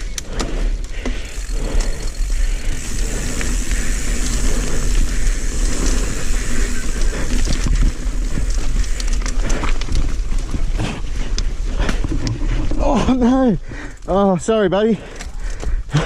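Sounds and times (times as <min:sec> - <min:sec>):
bike clicking and rattling: 0:00.0 - 0:16.0
bike tyres on dirt trail: 0:00.0 - 0:16.0.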